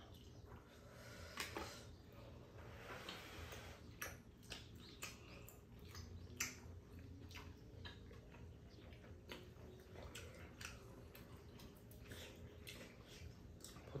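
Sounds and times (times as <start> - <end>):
chewing and lip smacks: 0.0 - 2.0, 3.0 - 14.0.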